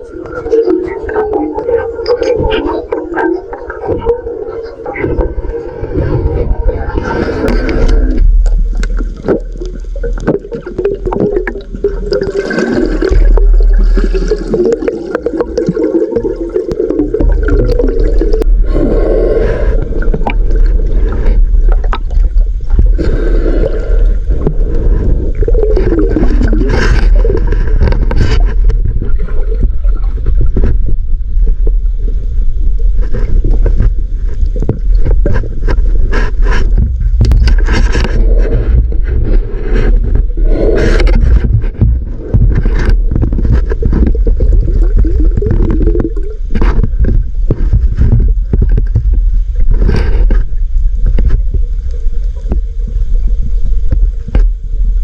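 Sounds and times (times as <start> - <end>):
underwater rumble: 0.0 - 55.0
water gurgling: 0.0 - 55.0.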